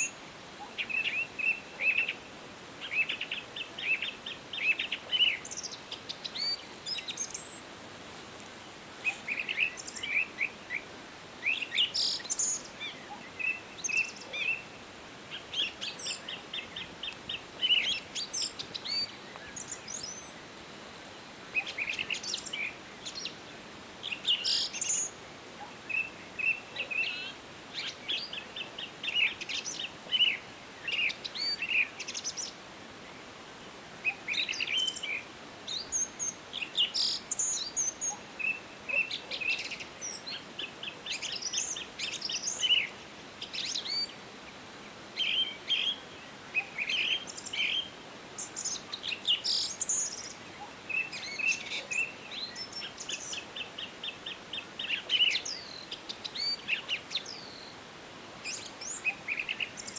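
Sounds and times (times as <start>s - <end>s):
faint background hiss: 0.0s - 59.9s
songbirds singing and chirping: 0.0s - 59.9s.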